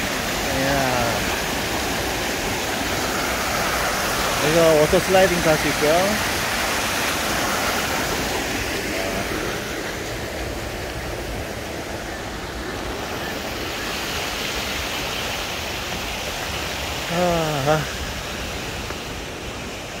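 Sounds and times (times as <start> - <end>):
stream water rushing over rock: 0.0 - 20.0.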